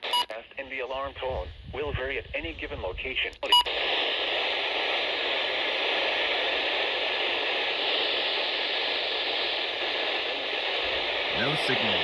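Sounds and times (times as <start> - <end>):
radio static hiss: 2.1 - 12.0.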